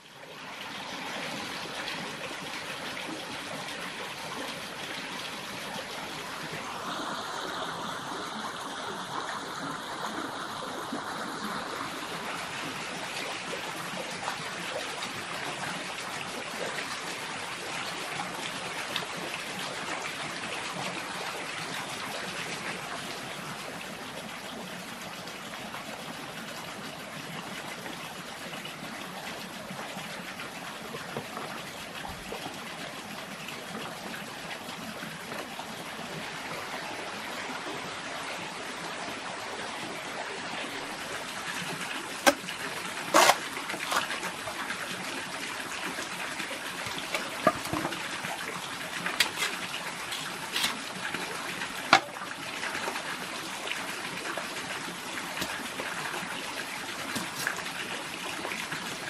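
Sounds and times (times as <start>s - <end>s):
stream running water: 0.0s - 59.0s.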